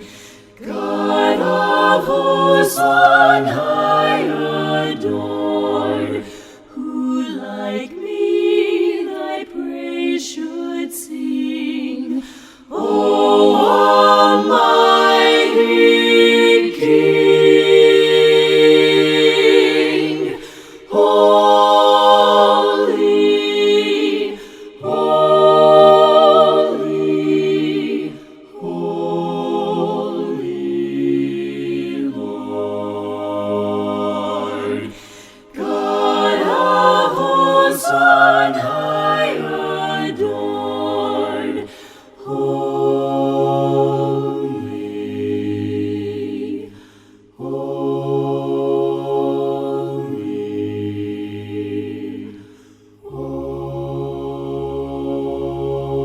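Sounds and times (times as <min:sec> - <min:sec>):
voices singing a hymn a cappella: 0:00.0 - 0:56.0.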